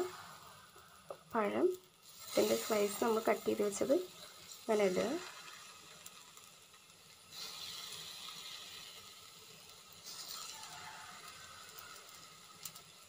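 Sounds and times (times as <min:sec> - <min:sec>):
banana slices sizzling on griddle: 0:00.0 - 0:13.0.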